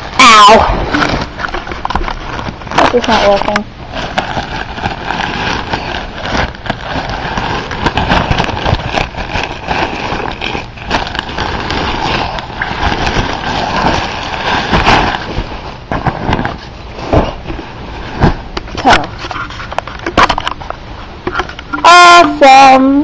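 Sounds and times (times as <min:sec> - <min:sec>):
plastic wrapping crinkling: 0:00.0 - 0:22.8.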